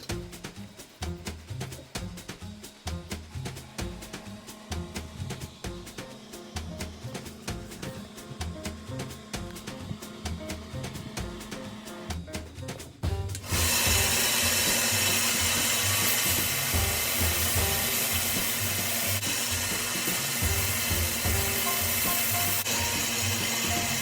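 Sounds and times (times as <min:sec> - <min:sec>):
background music: 0:00.0 - 0:24.0
power tool abrasive noise: 0:03.4 - 0:12.1, 0:13.4 - 0:24.0.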